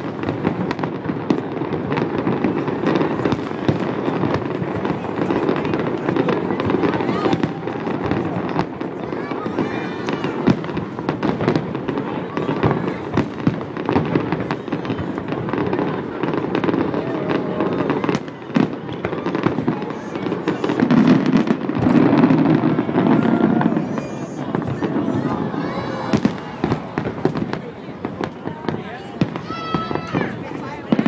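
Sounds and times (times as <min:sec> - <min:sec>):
crowd chatter: 0:00.0 - 0:31.0
fireworks bursting: 0:00.0 - 0:31.0.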